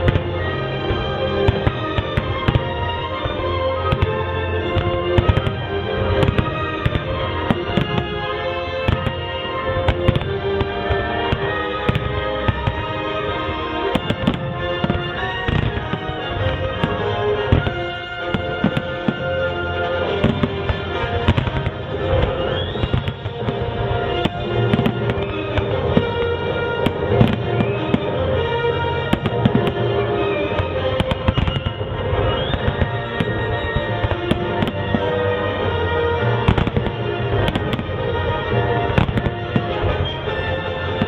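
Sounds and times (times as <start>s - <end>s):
fireworks bangs and crackles: 0.0s - 41.0s
loud music: 0.0s - 41.0s.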